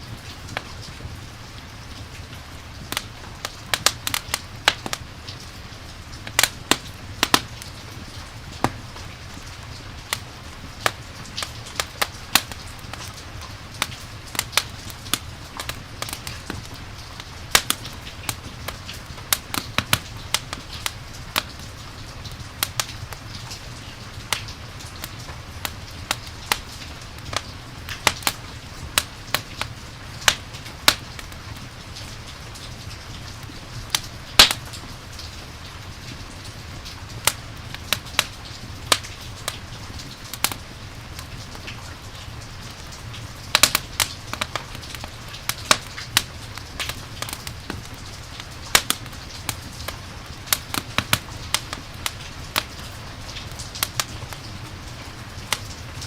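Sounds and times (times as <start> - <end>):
campfire crackling: 0.0 - 56.0
rain hissing: 0.0 - 56.0.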